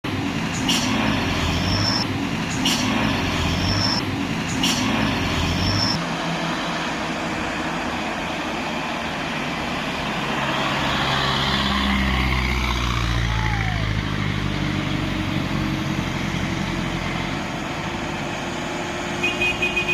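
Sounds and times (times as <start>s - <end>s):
truck diesel engine roaring: 0.0s - 19.9s.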